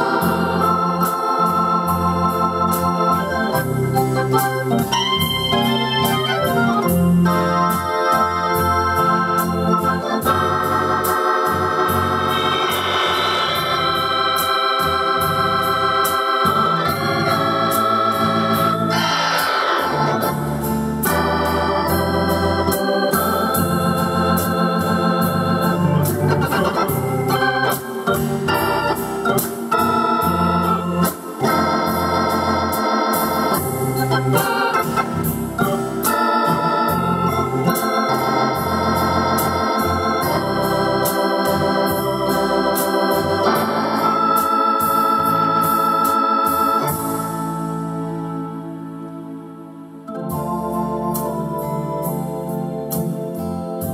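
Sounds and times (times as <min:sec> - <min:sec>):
keyboard glissando: 0:00.0 - 0:53.9
organ chords: 0:00.0 - 0:53.9.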